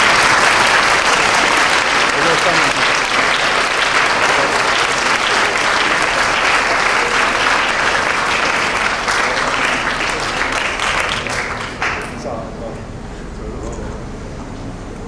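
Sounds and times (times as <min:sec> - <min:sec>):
audience clapping: 0:00.0 - 0:12.6.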